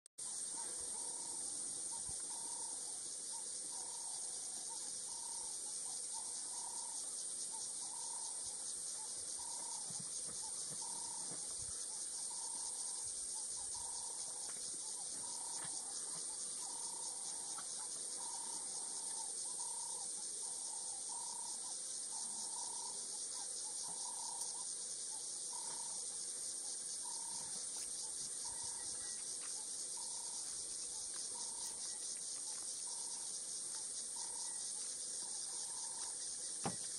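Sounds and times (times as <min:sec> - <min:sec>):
high-pitched insect chorus: 0:00.2 - 0:36.9
repeated lower insect note: 0:00.2 - 0:36.9.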